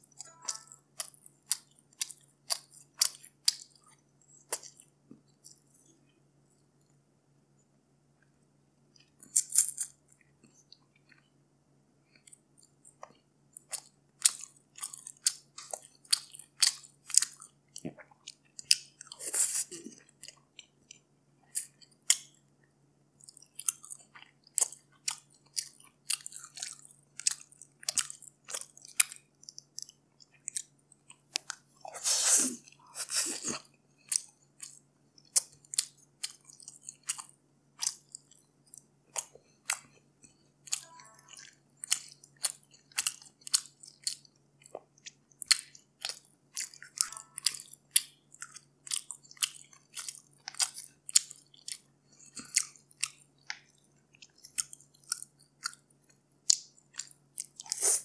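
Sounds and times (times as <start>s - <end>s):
wet chewing and mouth clicks: 0.0s - 6.0s, 12.1s - 22.4s, 23.2s - 58.0s.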